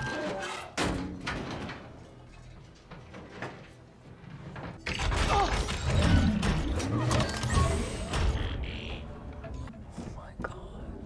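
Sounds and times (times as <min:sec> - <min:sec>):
mechanical clanking and whirring: 0:00.0 - 0:08.9.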